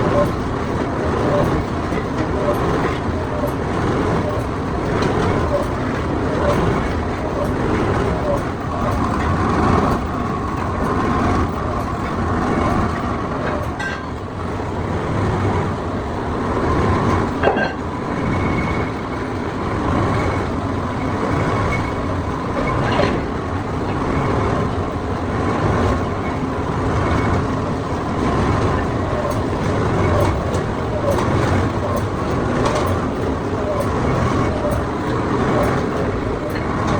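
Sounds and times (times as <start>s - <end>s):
workshop machinery noise: 0.0s - 36.9s.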